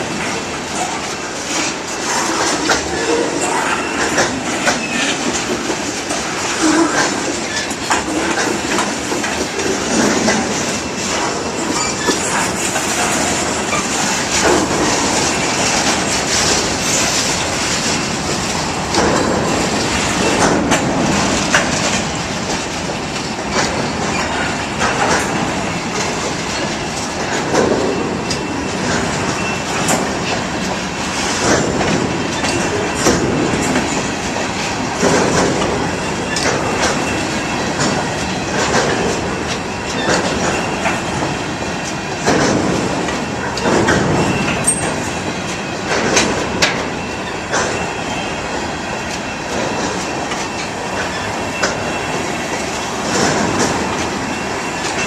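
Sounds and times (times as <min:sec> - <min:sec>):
freight train rumble: 0:00.0 - 0:55.0
train wheels clacking over rail joints: 0:00.0 - 0:55.0.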